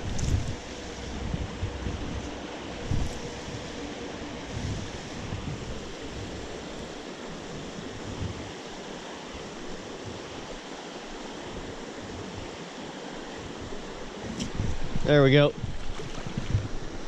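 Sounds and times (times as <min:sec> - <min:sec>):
rain: 0:00.0 - 0:15.3
creek water flowing: 0:00.0 - 0:17.0
wind rumble on microphone: 0:00.0 - 0:17.0.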